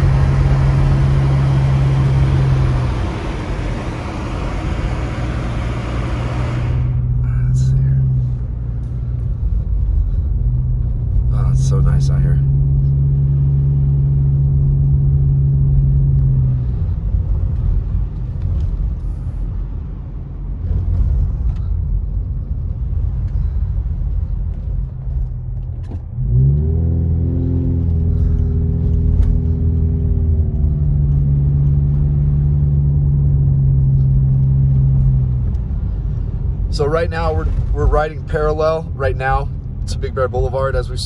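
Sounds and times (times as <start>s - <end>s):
car engine hum: 0.0s - 41.0s
tyre and road rumble: 0.0s - 41.0s.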